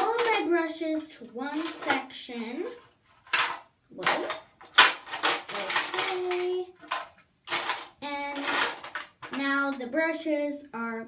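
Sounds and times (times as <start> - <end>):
makeup brushes clacking on plastic: 0.0 - 9.9.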